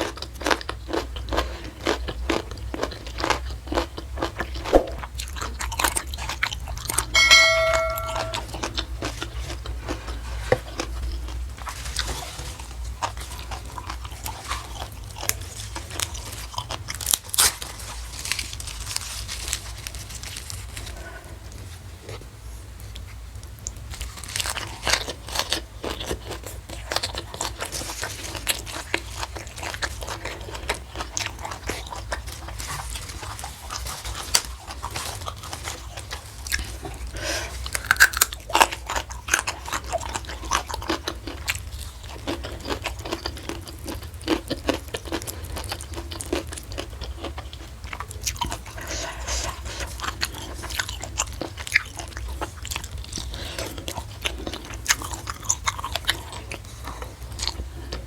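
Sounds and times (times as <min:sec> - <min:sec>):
crisp chewing crunches: 0:00.0 - 0:07.1, 0:09.1 - 0:22.2, 0:22.9 - 0:58.0.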